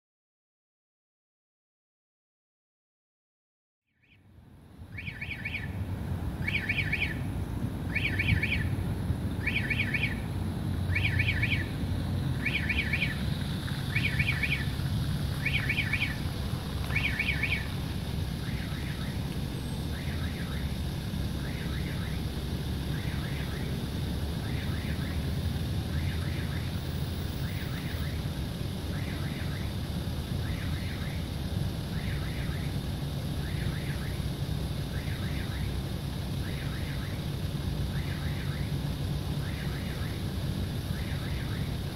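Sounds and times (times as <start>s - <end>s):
steady low rumble: 4.3s - 41.9s.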